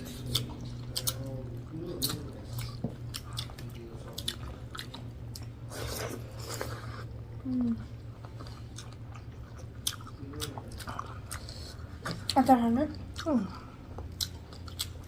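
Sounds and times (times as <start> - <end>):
close chewing with mouth clicks: 0.0 - 15.0
steady low hum: 0.0 - 15.0.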